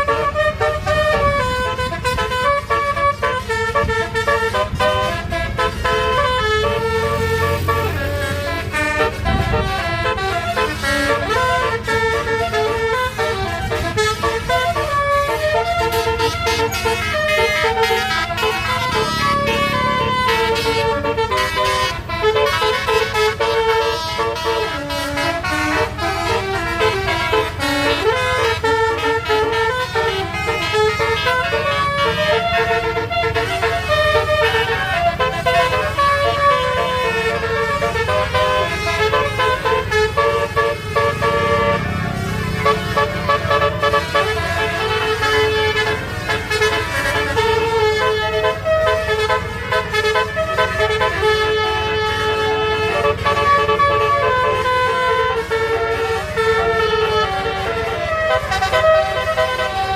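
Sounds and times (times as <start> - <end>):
bus engine running: 0.0 - 59.9
multi-tone bus horn tune: 0.0 - 59.9.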